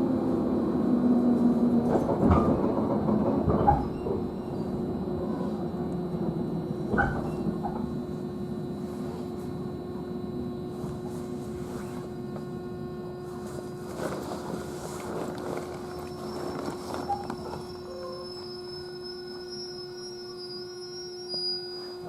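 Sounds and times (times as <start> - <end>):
train wheels and motor running: 0.0 - 18.0.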